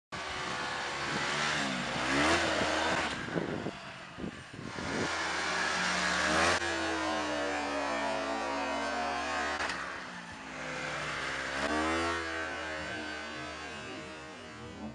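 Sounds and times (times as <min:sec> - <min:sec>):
snowmobile engine revving: 0:00.2 - 0:14.9.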